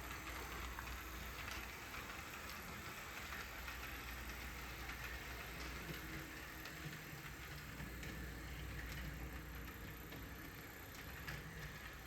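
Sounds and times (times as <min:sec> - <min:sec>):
train engine low hum: 0:00.0 - 0:12.0.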